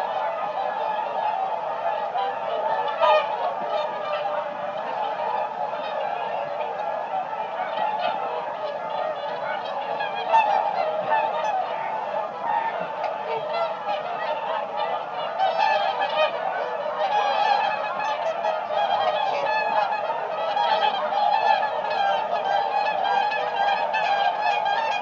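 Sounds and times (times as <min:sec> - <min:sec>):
swans trumpeting honks: 0:00.0 - 0:25.0.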